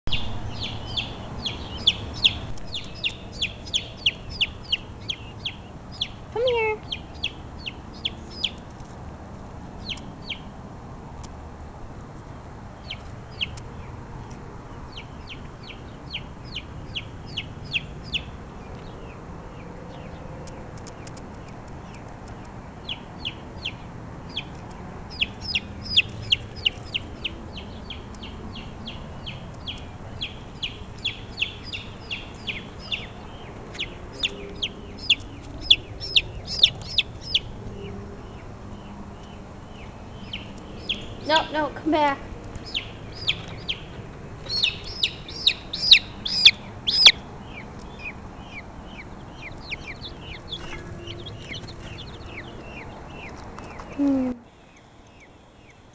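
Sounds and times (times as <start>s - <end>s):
baby chicks peeping: 0.1s - 9.0s, 9.7s - 10.5s, 12.7s - 55.9s.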